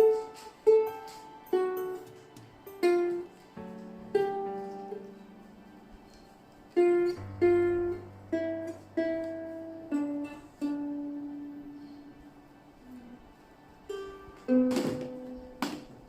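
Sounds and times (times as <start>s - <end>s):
ukulele single plucked notes: 0.0s - 13.2s, 13.8s - 16.0s.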